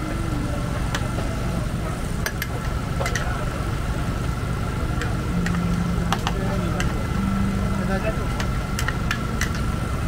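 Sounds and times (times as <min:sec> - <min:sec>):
engine idling hum: 0:00.0 - 0:10.0
thin steady whine: 0:00.0 - 0:10.0.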